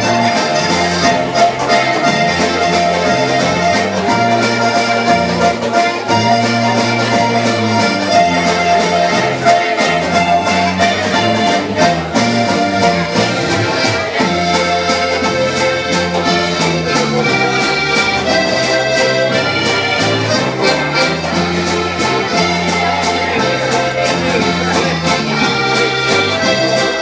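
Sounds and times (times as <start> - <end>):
accordion melody: 0.0 - 27.0
steady beat: 0.0 - 27.0.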